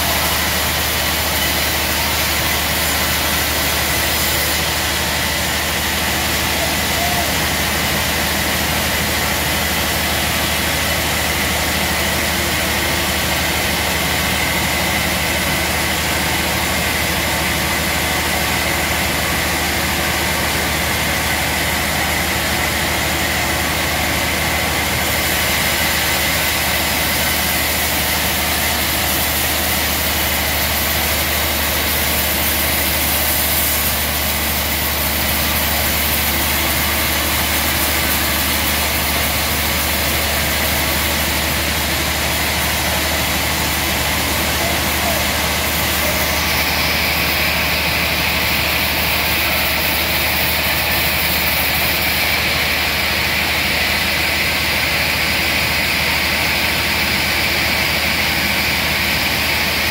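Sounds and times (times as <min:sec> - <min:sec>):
band saw cutting wood: 0:00.0 - 0:15.8, 0:17.9 - 0:59.9.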